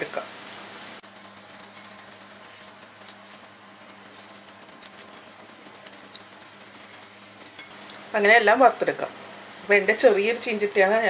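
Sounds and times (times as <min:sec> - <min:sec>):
deep-frying sizzle with pops: 0:00.0 - 0:11.0.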